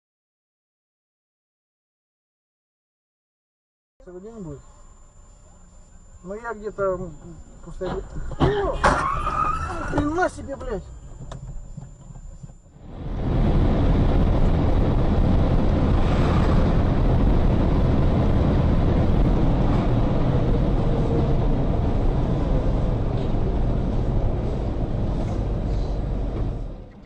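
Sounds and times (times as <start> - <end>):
road and engine rumble: 4.0 - 27.0.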